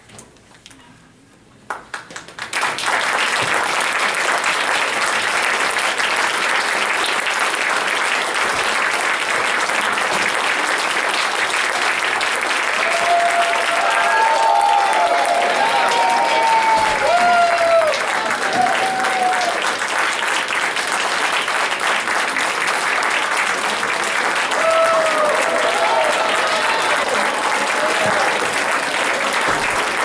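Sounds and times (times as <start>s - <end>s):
audience clapping: 1.7s - 30.0s.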